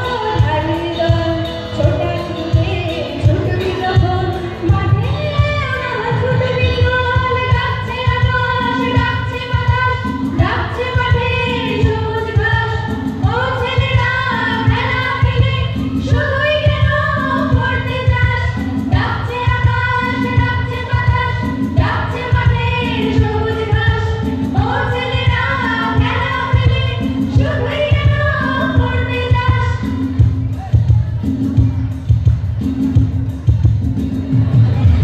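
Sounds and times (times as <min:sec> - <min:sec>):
women's backing vocals: 0:00.0 - 0:30.0
woman singing lead: 0:00.0 - 0:33.0.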